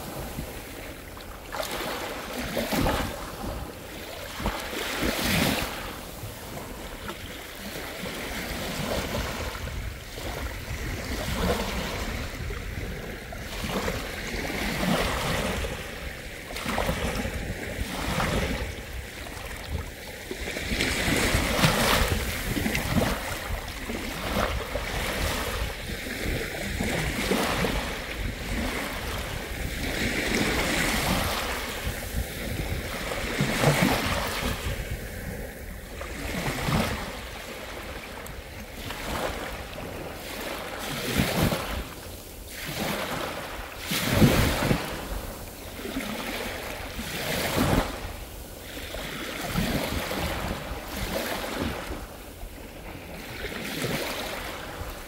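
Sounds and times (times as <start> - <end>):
ocean waves breaking: 0.0 - 55.0
wind on microphone: 0.0 - 55.0.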